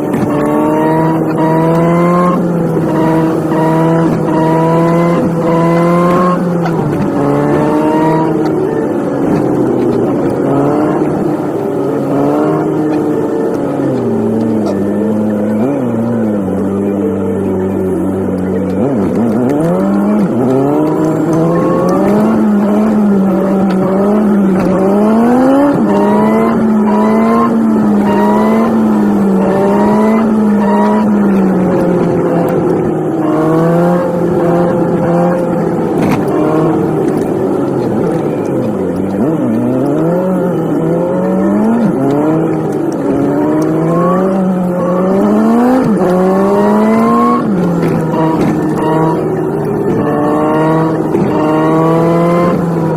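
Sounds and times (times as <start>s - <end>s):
sped-up car engine accelerating: 0.0s - 52.9s.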